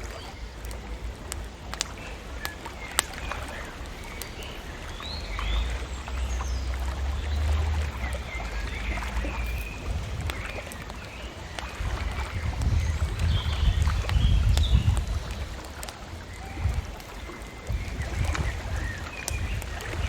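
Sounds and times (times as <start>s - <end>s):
bonfire crackling and popping: 0.0s - 20.0s
small birds chirping: 0.0s - 20.0s.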